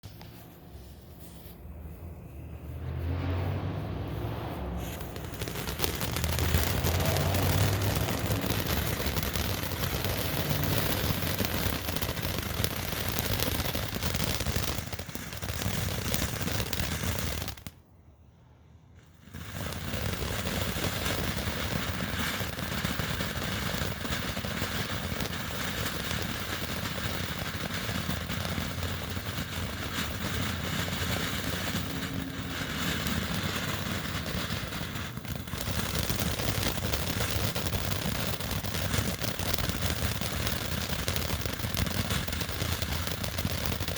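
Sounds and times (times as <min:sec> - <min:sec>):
firework fountain hissing and crackling: 0:00.0 - 0:02.0, 0:04.1 - 0:17.8, 0:19.0 - 0:43.9.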